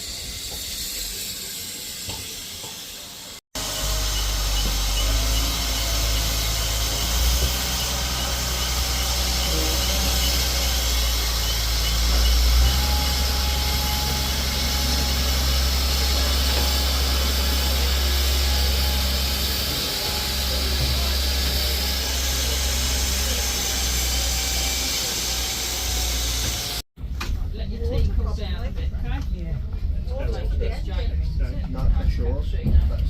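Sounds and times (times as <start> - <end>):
steam hiss: 0.0 - 26.8
steam train rumble: 0.0 - 26.8.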